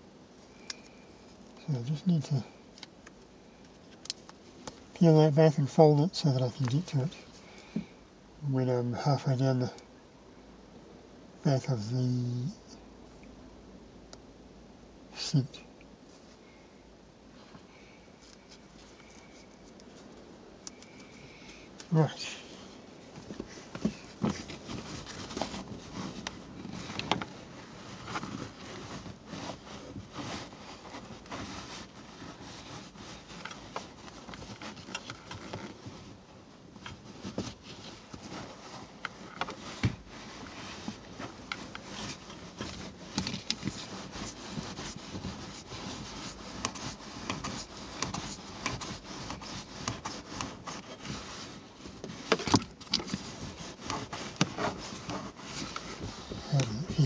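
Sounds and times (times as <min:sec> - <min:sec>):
heater pad rustling against upholstery: 0:00.0 - 0:09.8, 0:15.2 - 0:16.6, 0:17.2 - 0:57.0.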